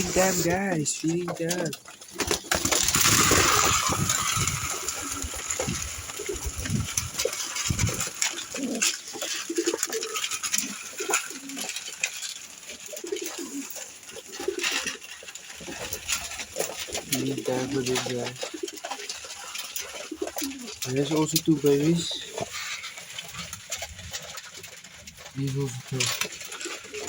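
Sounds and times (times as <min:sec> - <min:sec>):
feed pouring rattle: 0:00.0 - 0:27.0
pigeons cooing: 0:00.0 - 0:27.0.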